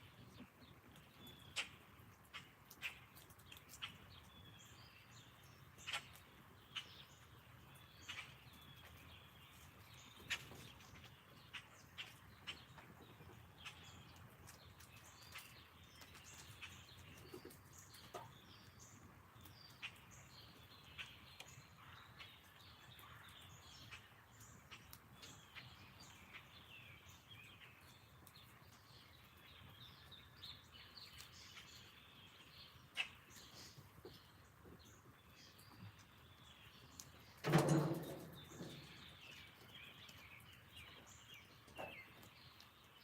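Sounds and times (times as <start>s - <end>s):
faint birdsong: 0.0s - 43.0s.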